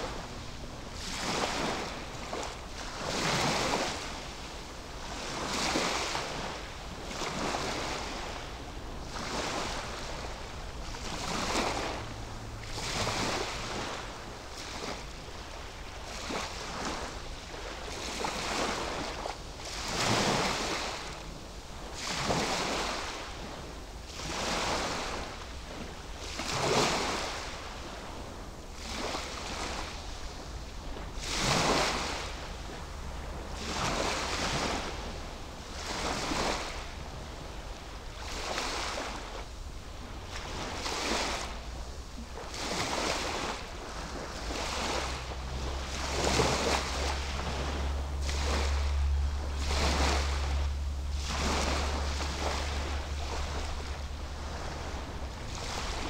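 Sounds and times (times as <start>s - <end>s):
small waves lapping on beach: 0.0s - 56.0s
steady low rumble: 0.0s - 56.0s.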